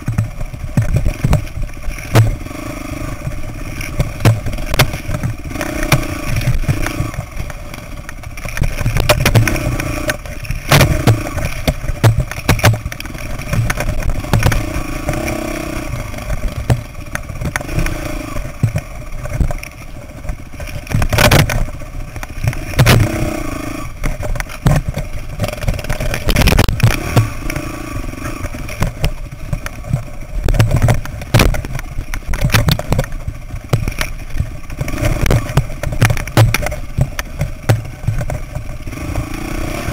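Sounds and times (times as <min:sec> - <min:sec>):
bike knocking and clattering: 0:00.0 - 0:39.9
dirt bike engine revving: 0:00.0 - 0:39.9.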